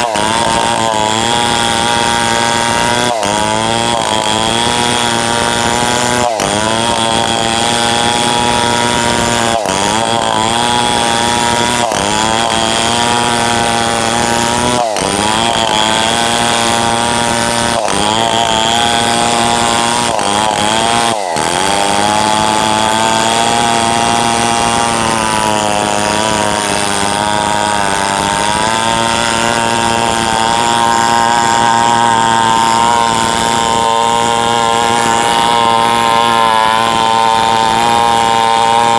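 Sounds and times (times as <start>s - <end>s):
chainsaw cutting wood at high revs: 0.0s - 38.9s.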